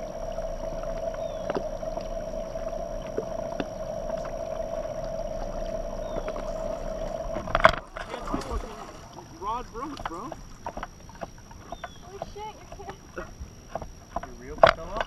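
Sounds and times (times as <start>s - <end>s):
electric trolling motor humming: 0.0s - 15.0s
faint clicks: 0.8s - 8.2s, 9.8s - 15.0s.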